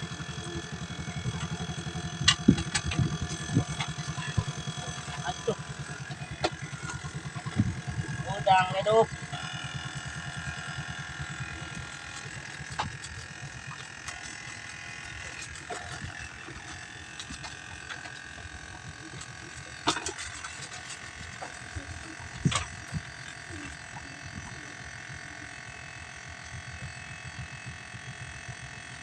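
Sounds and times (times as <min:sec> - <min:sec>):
small engine throbbing: 0:00.0 - 0:29.0.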